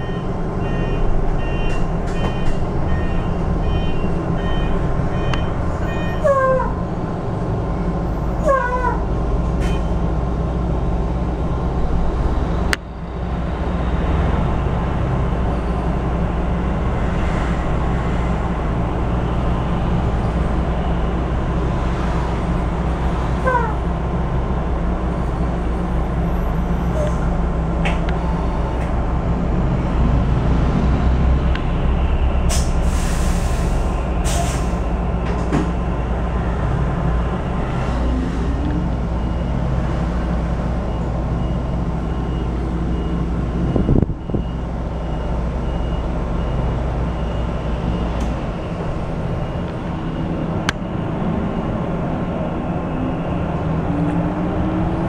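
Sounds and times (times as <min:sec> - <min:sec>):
bus hum and road noise: 0:00.0 - 0:55.0.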